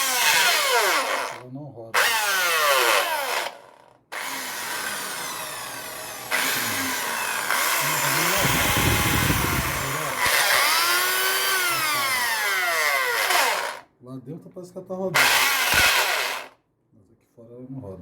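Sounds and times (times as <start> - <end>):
electric drill motor whining: 0.0 - 1.4, 2.0 - 13.8, 15.2 - 16.6.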